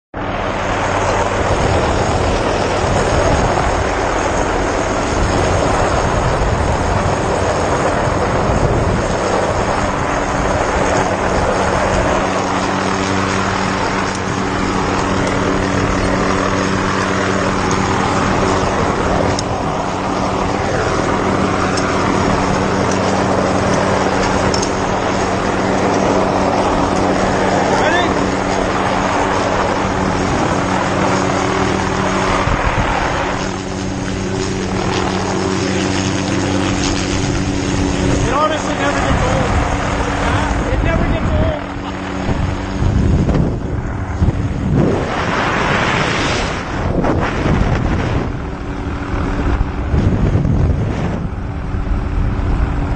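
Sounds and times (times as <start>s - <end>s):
helicopter turbine and rotor drone: 0.2s - 52.9s.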